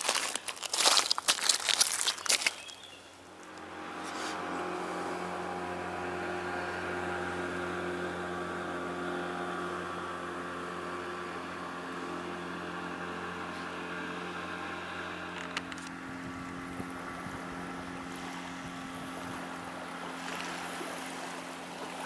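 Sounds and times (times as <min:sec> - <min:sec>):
engine running steadily: 0:02.5 - 0:22.0.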